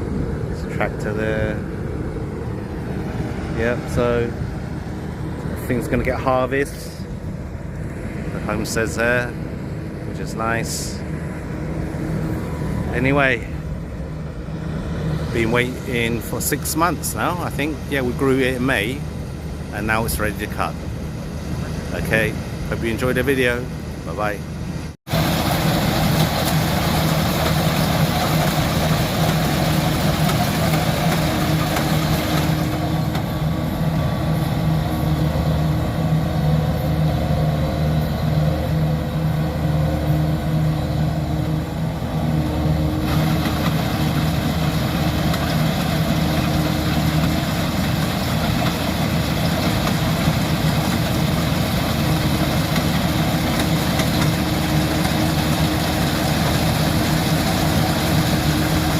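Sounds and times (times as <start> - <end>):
combine harvester engine running: 0.0 - 58.9.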